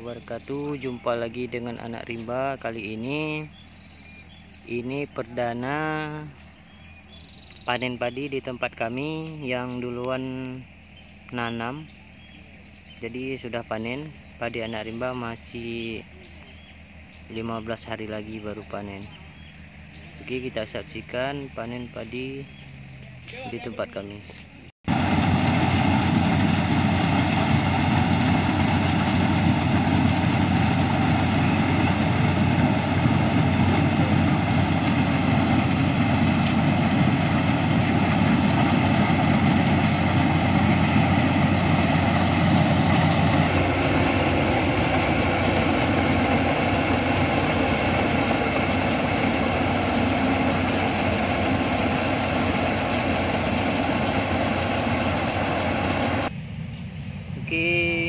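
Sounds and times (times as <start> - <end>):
combine harvester engine humming: 0.0 - 58.0.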